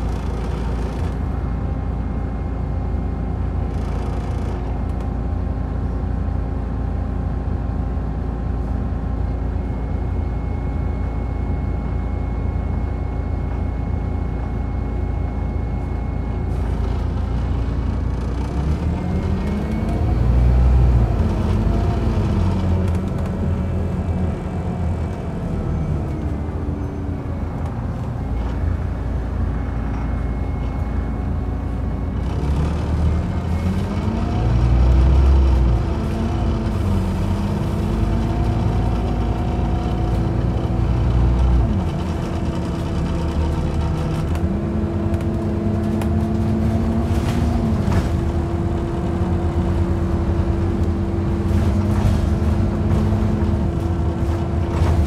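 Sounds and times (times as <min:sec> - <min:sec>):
bus engine revving: 0:00.0 - 0:02.4, 0:09.1 - 0:55.0.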